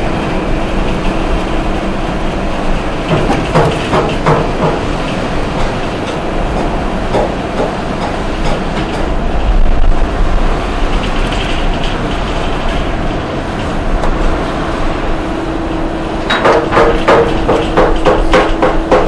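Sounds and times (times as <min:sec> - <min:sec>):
machine rumbling and rattling: 0:00.0 - 0:19.0.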